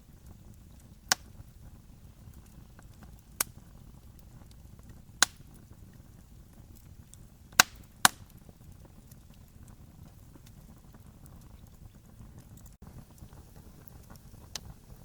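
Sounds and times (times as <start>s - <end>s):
burning wood popping: 0.0s - 15.0s
campfire rumbling and crackling: 0.0s - 15.0s.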